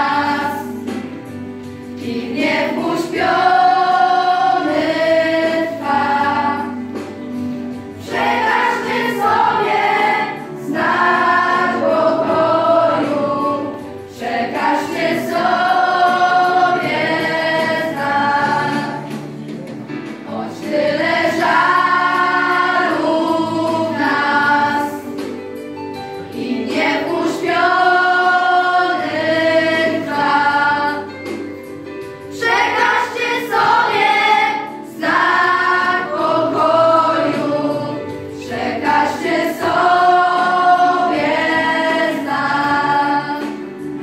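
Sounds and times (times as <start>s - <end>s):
children's choir singing carol: 0.0s - 25.4s, 26.2s - 44.0s.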